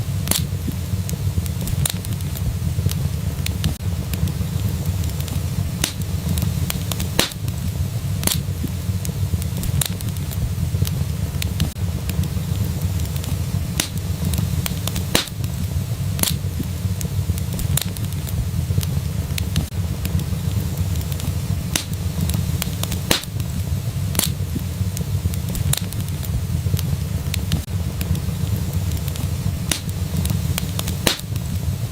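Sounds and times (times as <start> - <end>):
low rumble of flames: 0.0 - 31.9
wood fire crackling: 0.0 - 31.9.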